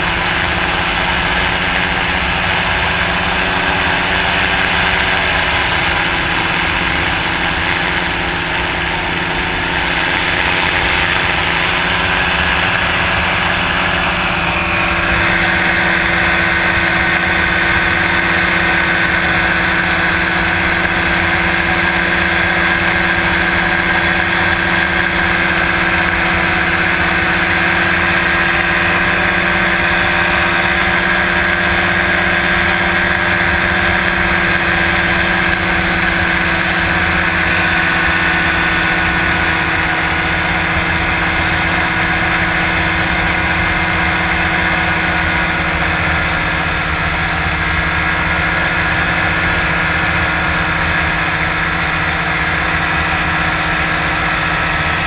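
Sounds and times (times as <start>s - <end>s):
high steady whine: 0.0s - 55.0s
paramotor engine droning: 0.0s - 55.0s.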